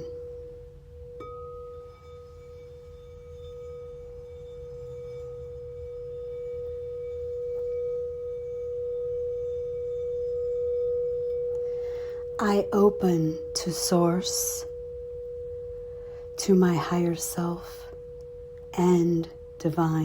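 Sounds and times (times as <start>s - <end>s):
crystal singing bowl ringing: 0.0s - 20.0s
higher bowl tone: 0.0s - 20.0s.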